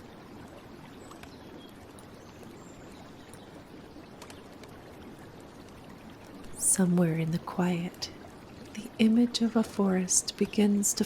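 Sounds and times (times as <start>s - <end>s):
gently running water: 0.0s - 11.0s.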